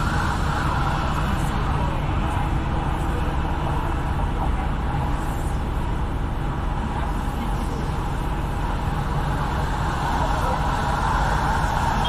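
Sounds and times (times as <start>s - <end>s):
car driving in traffic: 0.0s - 12.0s.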